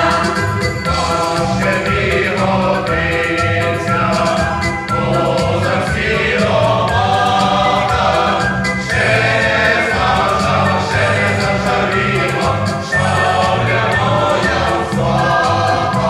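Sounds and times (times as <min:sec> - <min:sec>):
folk choir singing: 0:00.0 - 0:16.0
instrumental accompaniment: 0:00.0 - 0:16.0.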